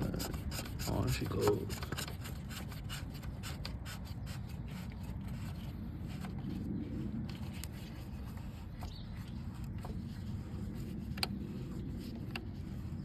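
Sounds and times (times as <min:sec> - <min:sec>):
parts scraping and rubbing: 0:00.0 - 0:13.0.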